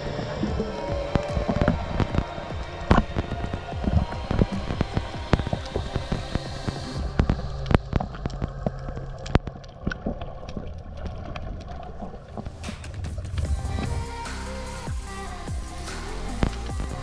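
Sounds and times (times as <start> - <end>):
sharp clicks and crackles: 0.0 - 14.8
muffled underwater rumble: 0.0 - 17.0.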